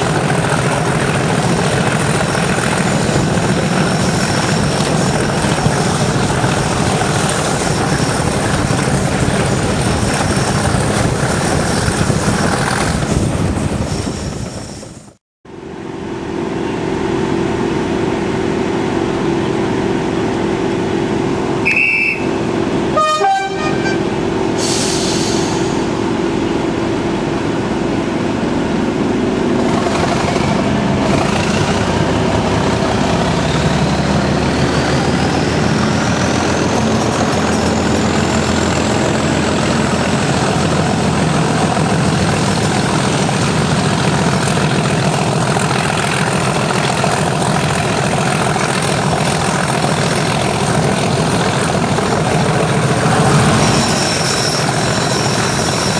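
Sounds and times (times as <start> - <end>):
diesel locomotive engine: 0.0 - 55.9
rail noise: 0.0 - 55.9.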